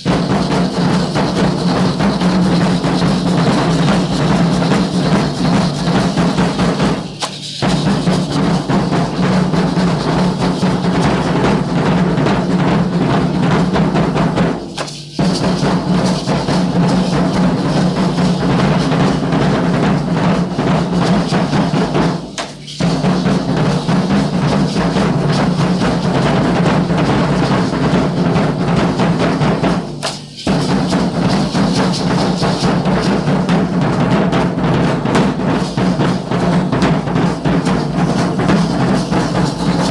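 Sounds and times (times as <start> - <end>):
drums beating a dense rhythm: 0.0 - 39.9.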